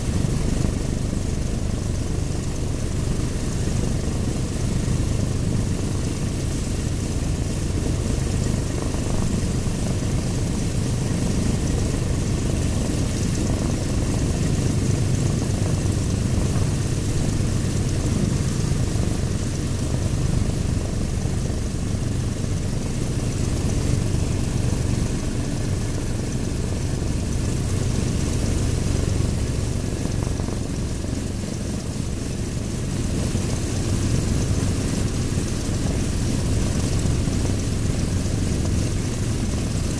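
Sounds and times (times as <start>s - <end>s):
propeller aircraft engine running: 0.0s - 39.9s.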